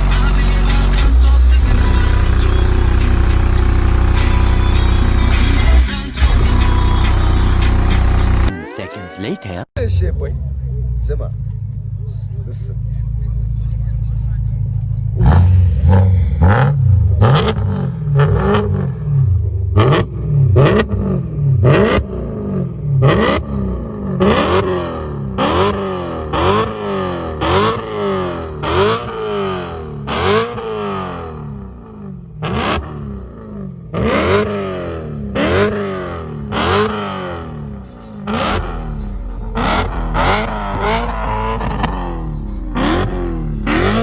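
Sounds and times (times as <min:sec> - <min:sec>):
car engine revving: 0:00.0 - 0:08.5, 0:09.8 - 0:44.0
exhaust cracks: 0:00.0 - 0:08.5, 0:09.8 - 0:44.0.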